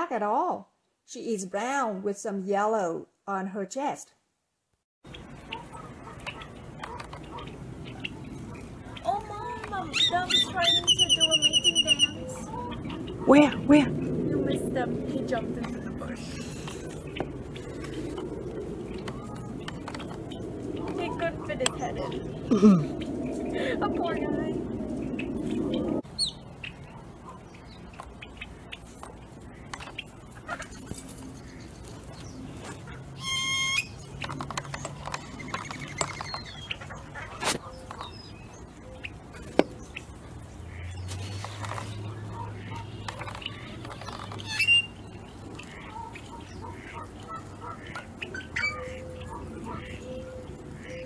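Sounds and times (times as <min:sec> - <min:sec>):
birds chipping and chirping: 0:05.0 - 0:51.0
blackbirds calling: 0:05.1 - 0:51.0.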